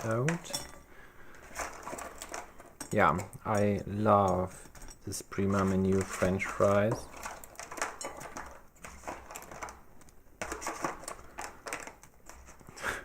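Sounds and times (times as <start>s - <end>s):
packaging crinkling and clicking: 1.3s - 12.8s.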